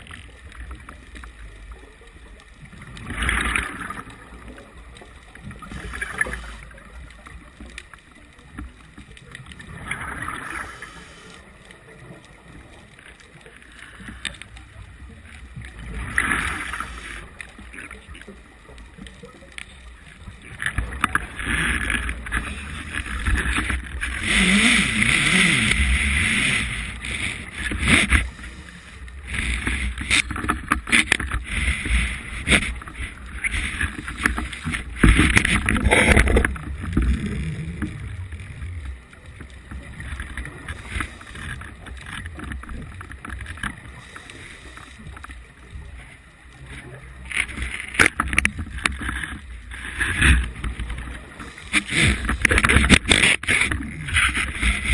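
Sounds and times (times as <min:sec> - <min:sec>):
underwater water rushing: 0:00.0 - 0:54.9.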